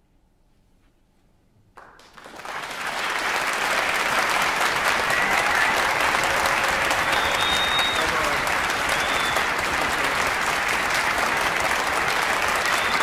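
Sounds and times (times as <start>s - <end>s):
audience applause: 1.8s - 13.0s.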